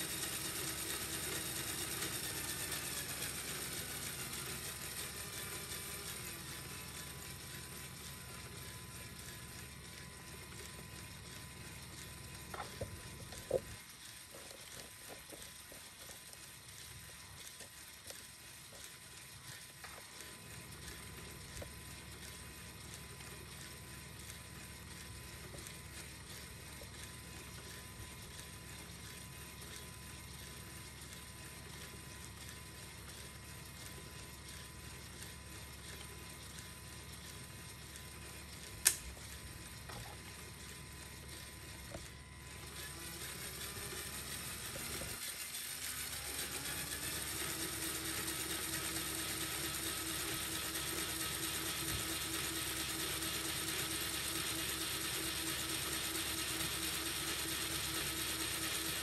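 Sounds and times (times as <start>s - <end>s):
toy engine model whirring: 0.0s - 59.0s.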